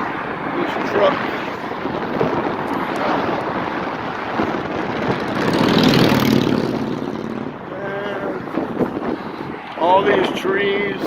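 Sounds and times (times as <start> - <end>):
motor vehicle passing: 0.0 - 10.3.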